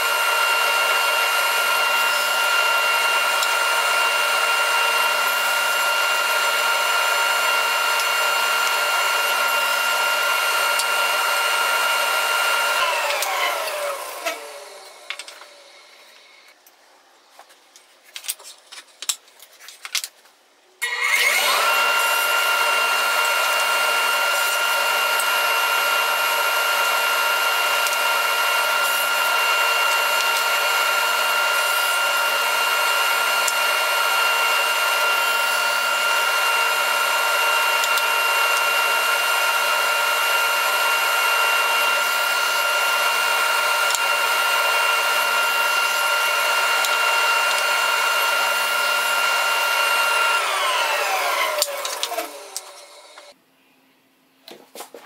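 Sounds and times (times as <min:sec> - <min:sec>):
table saw whining: 0:00.0 - 0:16.6, 0:20.8 - 0:53.4.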